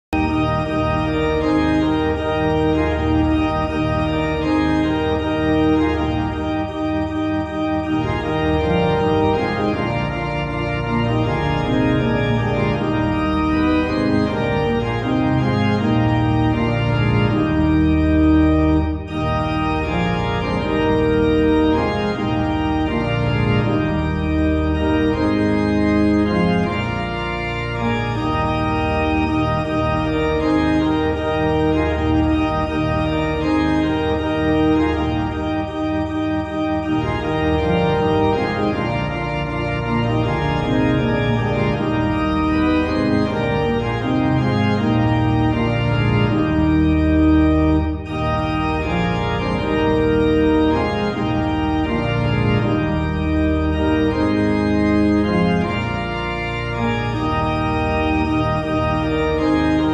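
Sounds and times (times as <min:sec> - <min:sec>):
organ playing held chords: 0:00.1 - 0:59.9.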